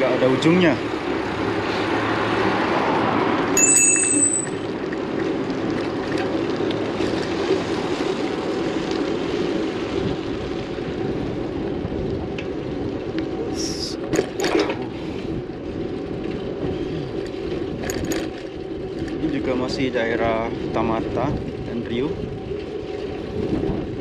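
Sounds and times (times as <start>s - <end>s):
bicycle tyres on road: 0.0s - 24.0s.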